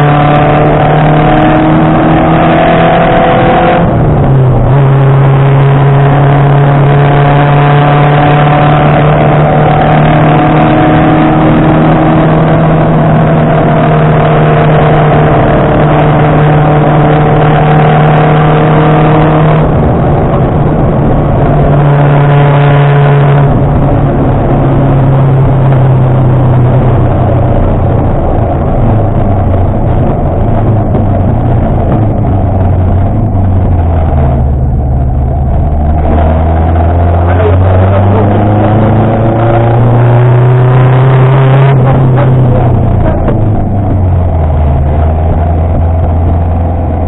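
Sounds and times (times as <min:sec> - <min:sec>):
rally car engine running hard: 0:00.0 - 0:47.0.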